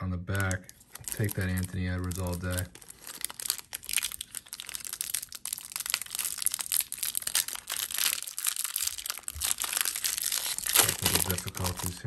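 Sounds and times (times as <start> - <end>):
plastic wrapper crinkling: 0.3 - 12.0.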